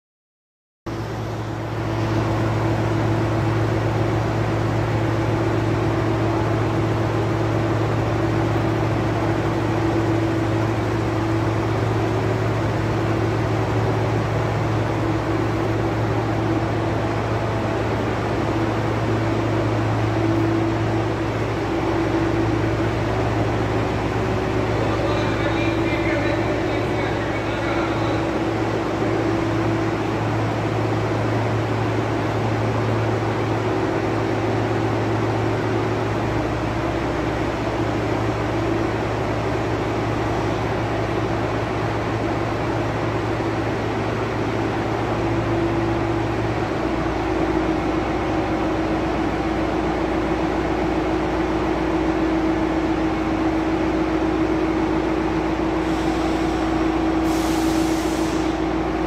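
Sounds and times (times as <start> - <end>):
crane diesel engine running: 0.9 - 59.0
steady whine: 0.9 - 59.0.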